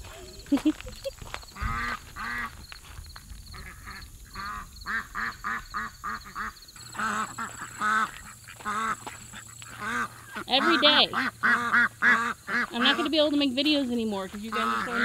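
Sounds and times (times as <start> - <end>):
ducks quacking: 0.0 - 2.6, 3.5 - 15.0.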